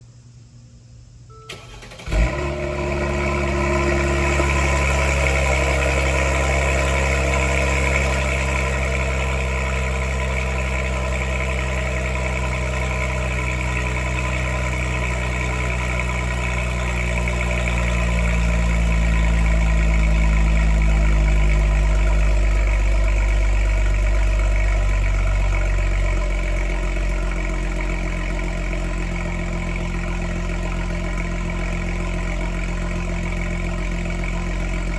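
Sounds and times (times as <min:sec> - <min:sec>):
vehicle engine starting and idling: 0:01.2 - 0:34.9.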